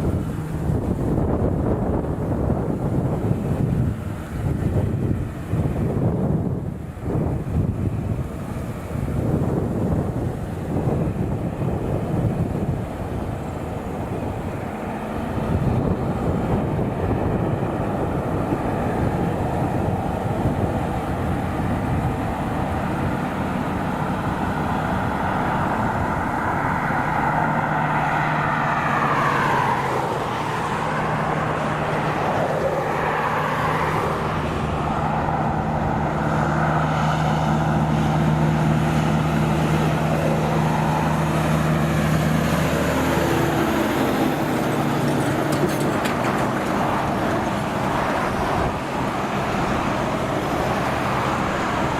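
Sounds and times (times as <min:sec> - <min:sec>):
heavy trucks driving past: 0:00.0 - 0:51.9
steady engine drone: 0:00.0 - 0:51.9.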